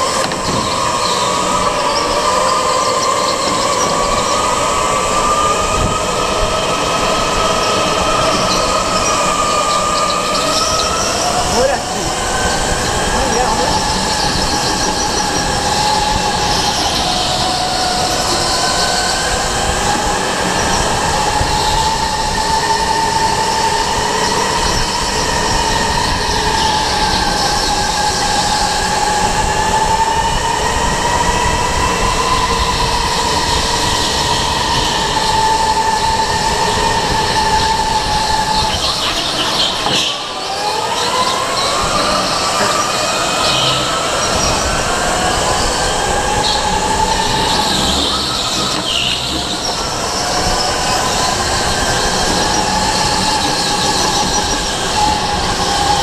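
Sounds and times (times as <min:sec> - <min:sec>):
electric motor whining: 0:00.0 - 0:56.0.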